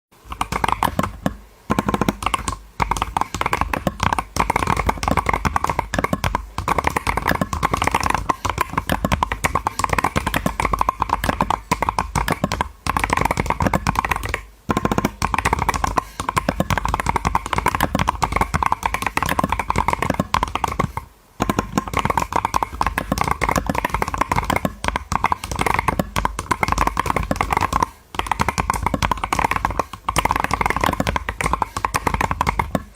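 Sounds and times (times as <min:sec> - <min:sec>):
fast typing on keyboard: 0:00.2 - 0:32.9.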